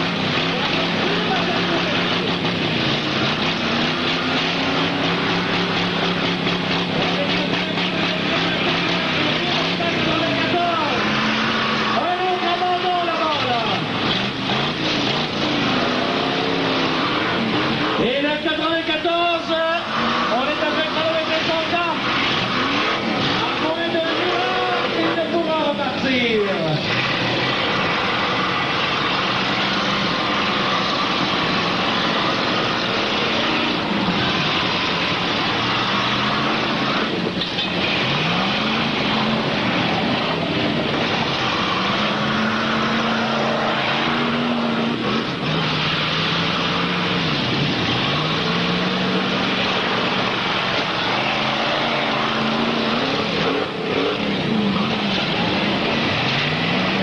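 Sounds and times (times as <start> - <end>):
car engines revving: 0.0 - 57.0
cars ramming with sharp bangs: 0.0 - 57.0
dense engine noise: 0.0 - 57.0.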